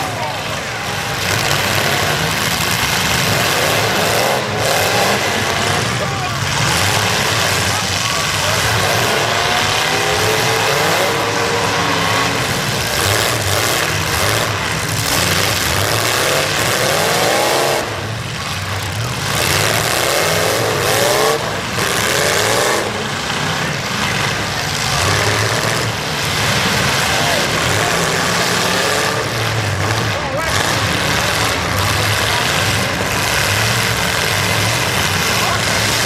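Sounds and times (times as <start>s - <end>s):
car engines revving: 0.0s - 36.0s
loud steady rushing din: 0.0s - 36.0s.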